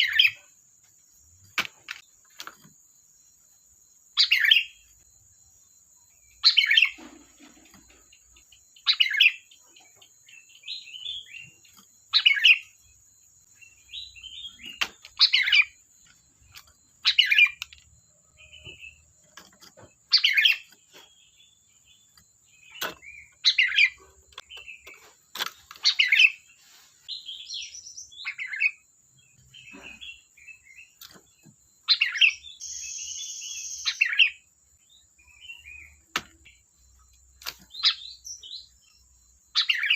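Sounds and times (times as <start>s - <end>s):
bulbul singing: 0.0s - 39.9s
faint high whine: 0.0s - 39.9s.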